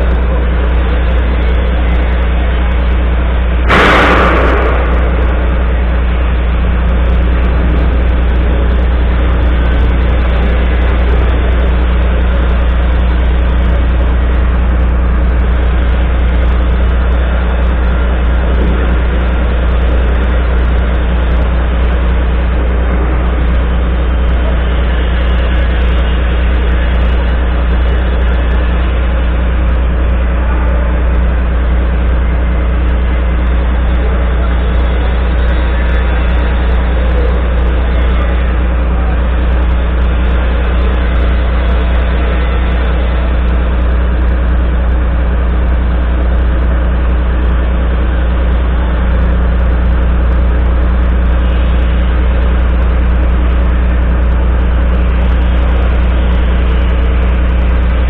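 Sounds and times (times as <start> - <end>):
truck diesel engine idling: 0.0 - 58.0.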